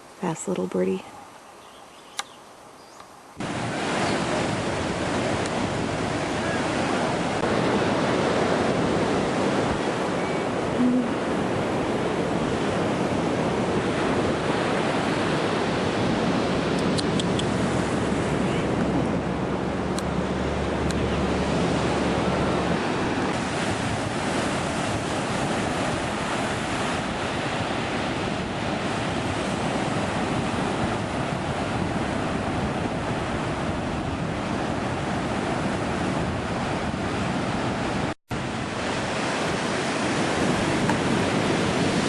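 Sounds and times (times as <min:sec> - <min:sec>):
steady rushing noise outdoors: 0:00.0 - 0:42.0.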